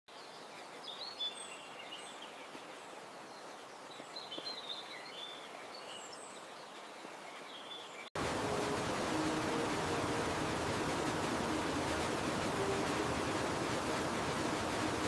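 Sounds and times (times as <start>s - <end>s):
faint outdoor hiss: 0.1s - 15.0s.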